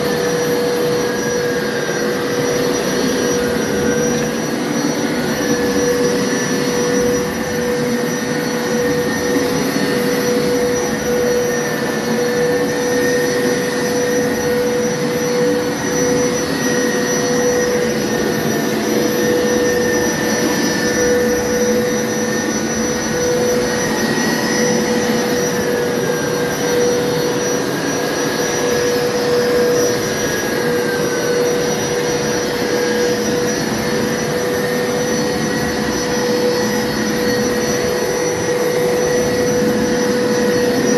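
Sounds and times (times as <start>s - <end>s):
carpet cleaner motor whine: 0.0s - 40.9s.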